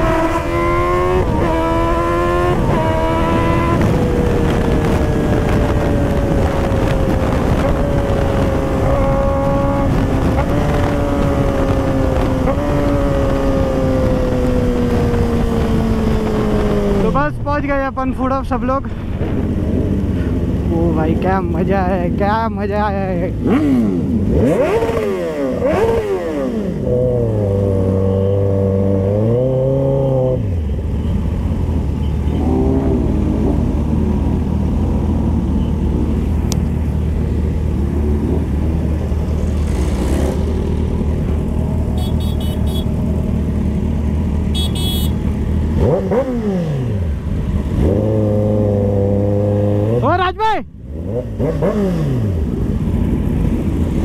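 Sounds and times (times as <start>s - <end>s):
motorcycle engine revving and idling: 0.0s - 17.8s, 18.5s - 54.0s.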